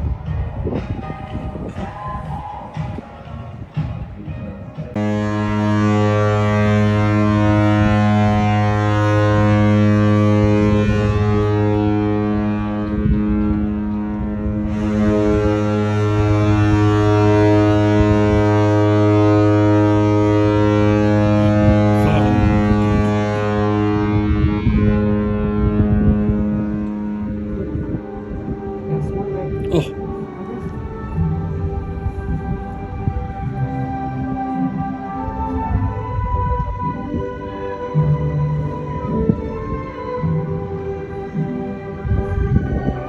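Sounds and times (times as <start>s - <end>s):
ship's horn long deep blast: 5.0s - 43.0s.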